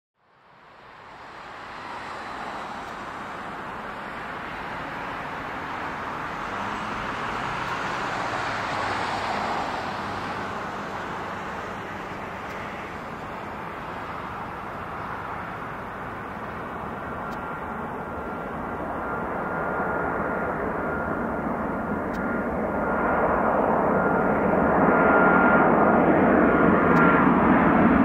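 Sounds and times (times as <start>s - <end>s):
jet engine rush: 0.5s - 28.0s.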